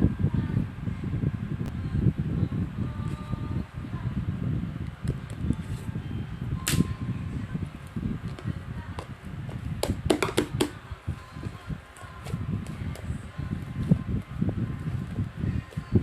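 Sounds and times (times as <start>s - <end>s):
television playing: 0.0s - 16.0s.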